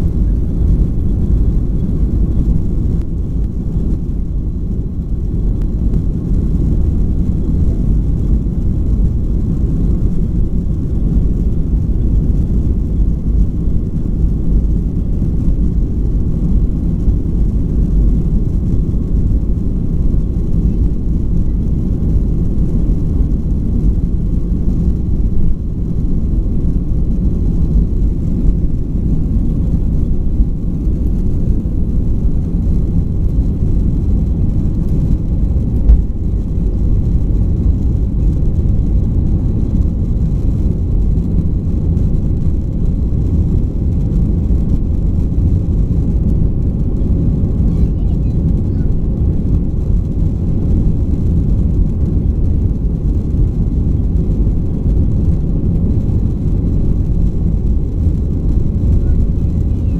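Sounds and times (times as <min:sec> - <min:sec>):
airliner cabin rumble on runway: 0:00.0 - 0:59.9.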